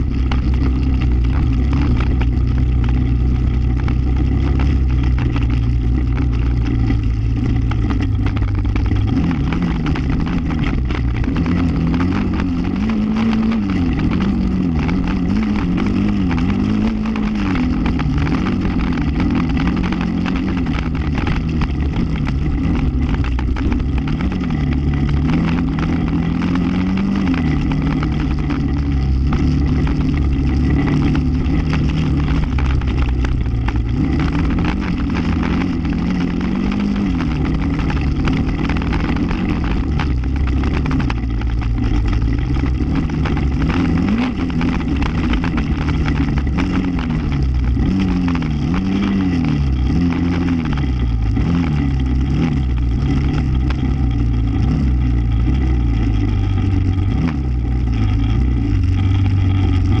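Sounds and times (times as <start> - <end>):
atv engine revving: 0.0 - 60.0
wind and ride noise: 0.0 - 60.0.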